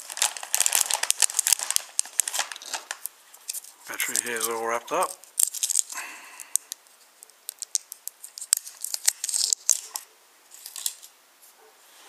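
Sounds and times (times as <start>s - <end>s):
plastic wrapper crinkling: 0.0s - 11.2s.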